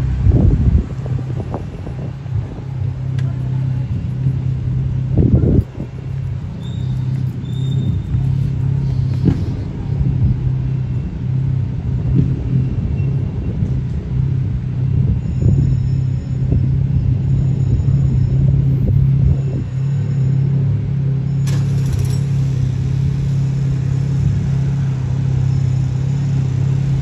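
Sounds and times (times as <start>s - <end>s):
engines idling: 0.0s - 27.0s.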